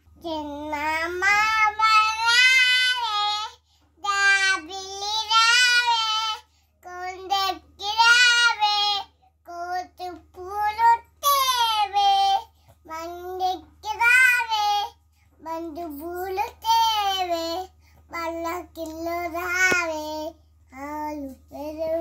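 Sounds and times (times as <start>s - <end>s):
faint low hum: 0.0s - 22.0s
child singing: 0.2s - 22.0s.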